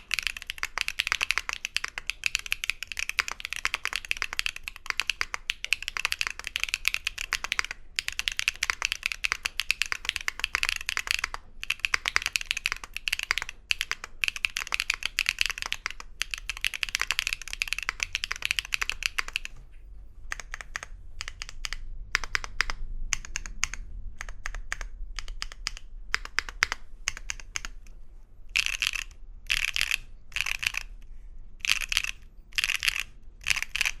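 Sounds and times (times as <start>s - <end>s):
mechanical keyboard typing: 0.0s - 19.7s, 20.3s - 27.9s, 28.5s - 31.0s, 31.6s - 34.0s.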